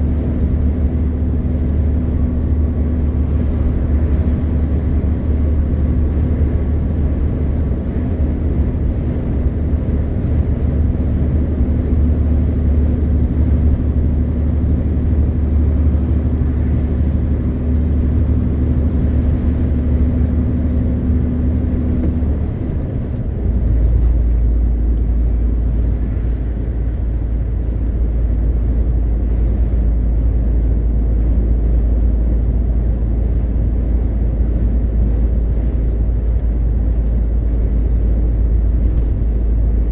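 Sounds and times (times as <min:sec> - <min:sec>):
road noise: 0:00.0 - 0:39.9
truck diesel engine droning: 0:00.0 - 0:39.9.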